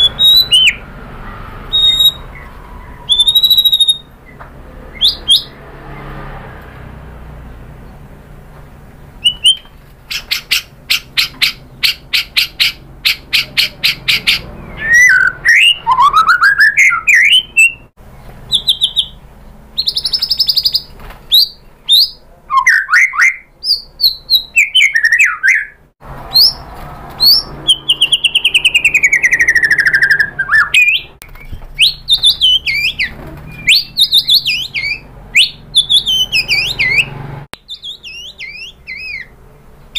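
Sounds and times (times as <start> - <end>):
bird singing varied song: 0.0 - 6.2, 7.4 - 39.9.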